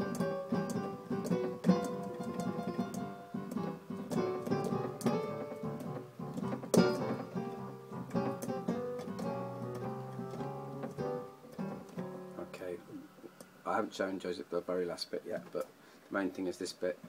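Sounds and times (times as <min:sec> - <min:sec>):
keyboard piano playing: 0:00.0 - 0:13.8.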